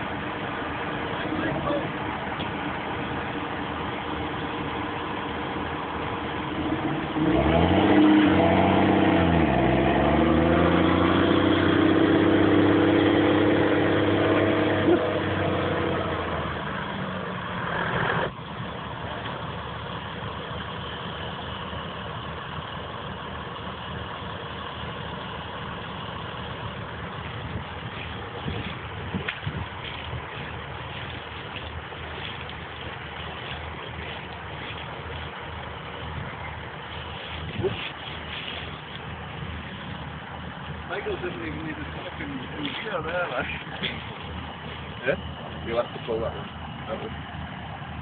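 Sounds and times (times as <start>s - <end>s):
low steady rumble: 0.0s - 48.0s
tractor diesel engine: 0.0s - 48.0s.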